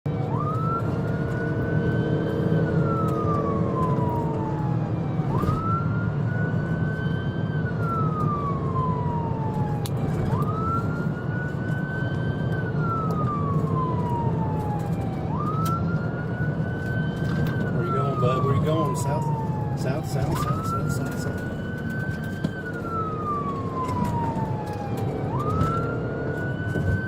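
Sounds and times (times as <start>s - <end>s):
engine and road noise: 0.0s - 27.0s
police siren wailing: 0.1s - 27.0s.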